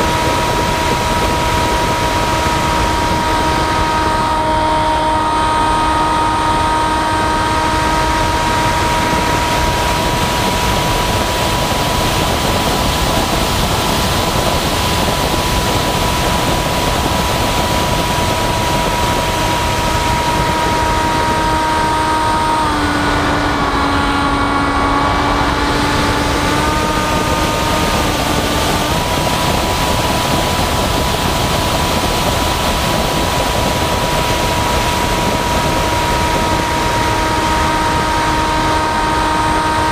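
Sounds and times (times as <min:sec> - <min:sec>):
model aircraft motor whining: 0:00.0 - 0:39.9
wind rush on microphone: 0:00.0 - 0:39.9.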